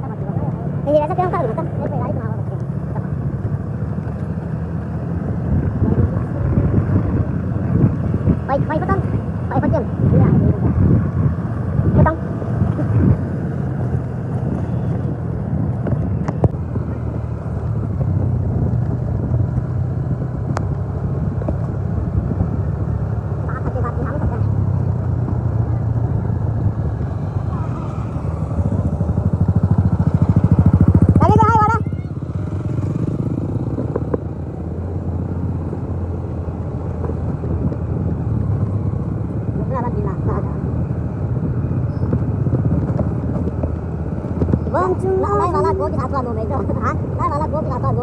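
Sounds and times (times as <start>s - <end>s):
road noise: 0.0s - 48.0s
vehicle engine running: 0.0s - 48.0s.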